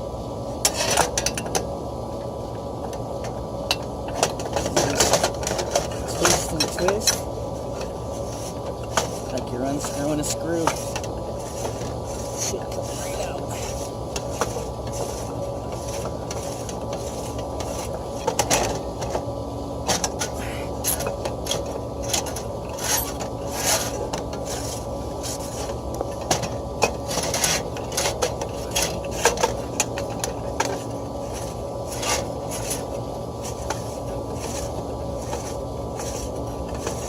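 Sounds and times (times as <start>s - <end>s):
steady hum: 0.0s - 37.0s.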